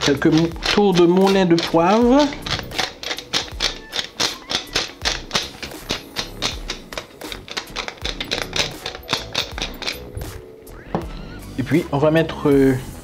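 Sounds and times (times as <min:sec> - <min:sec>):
pepper mill grinding: 0:00.0 - 0:10.5
soft background music: 0:00.0 - 0:13.0.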